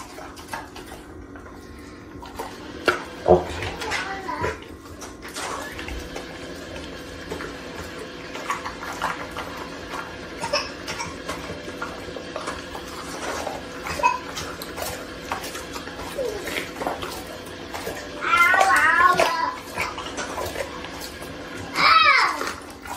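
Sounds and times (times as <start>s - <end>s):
dog chewing and licking: 0.0s - 22.9s.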